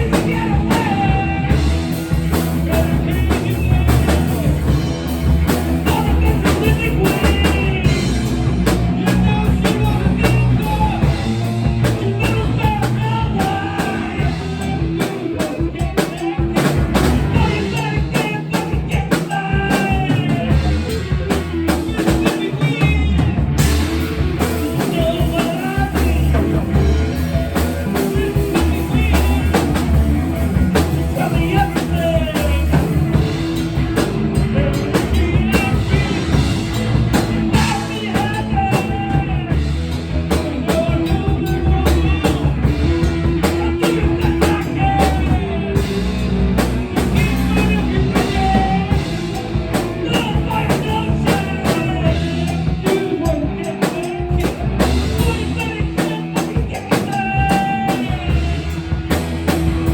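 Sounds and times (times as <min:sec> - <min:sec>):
bass line: 0:00.0 - 0:59.9
drum beats: 0:00.0 - 0:59.9
guitar: 0:00.0 - 0:59.9
rock music: 0:00.0 - 0:59.9.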